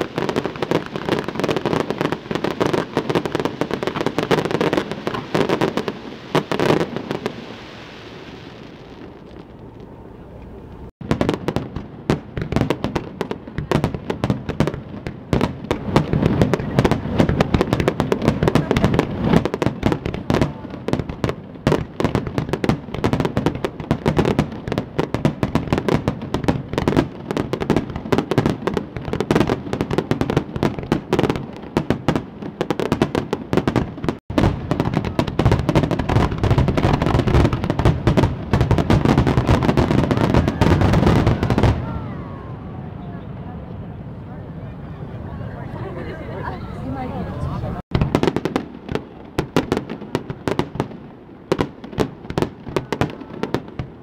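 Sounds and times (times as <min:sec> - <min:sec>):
fireworks bursting and crackling: 0:00.0 - 0:42.5, 0:47.8 - 0:54.0.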